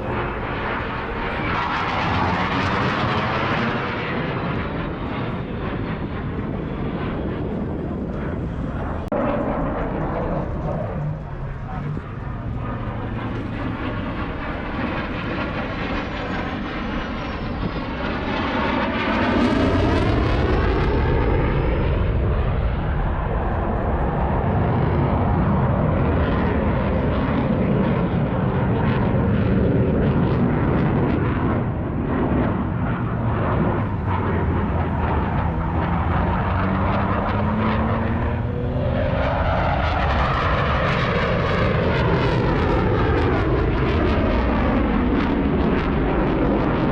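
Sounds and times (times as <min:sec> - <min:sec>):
jet aircraft flying past: 0:00.0 - 0:46.9.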